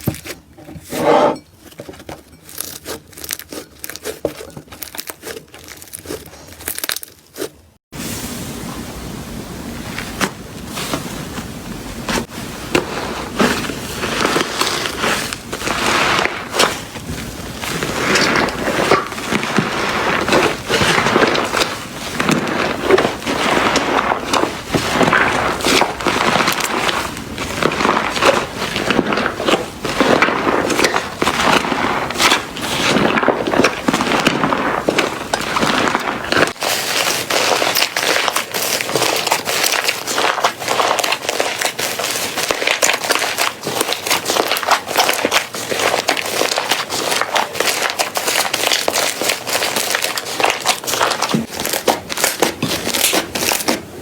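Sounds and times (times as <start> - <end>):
slime crackling and popping: 2.5 - 7.5, 12.7 - 53.8.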